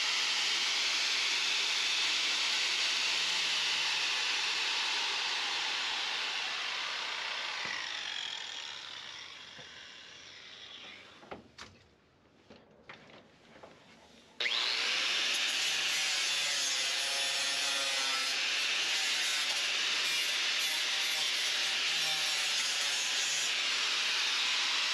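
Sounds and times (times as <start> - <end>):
angle grinder grinding metal: 0.0 - 11.0, 14.4 - 24.9.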